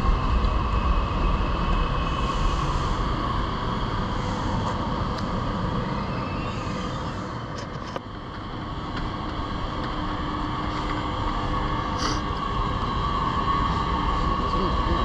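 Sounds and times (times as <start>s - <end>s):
electric train rumbling past: 0.0s - 15.0s
high electric hum: 0.0s - 15.0s.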